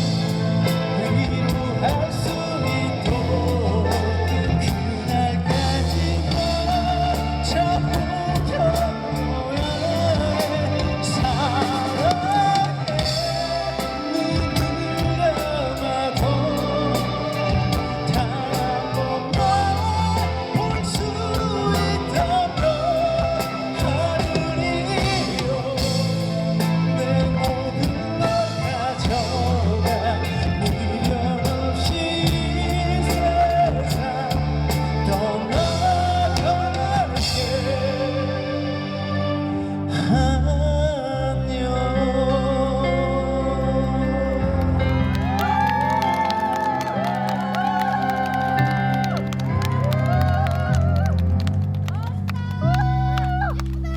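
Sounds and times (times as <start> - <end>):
rock band playing ballad: 0.0 - 53.9.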